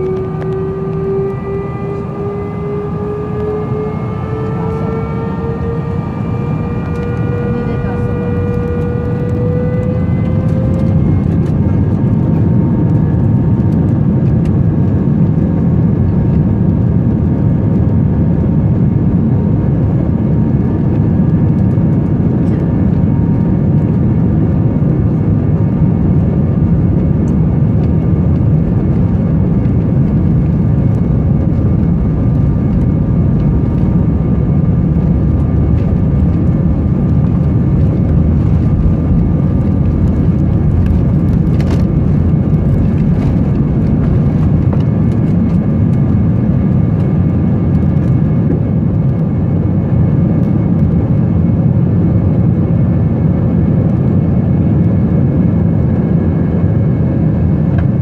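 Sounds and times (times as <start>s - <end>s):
jet engines low rumble: 0.0s - 58.0s.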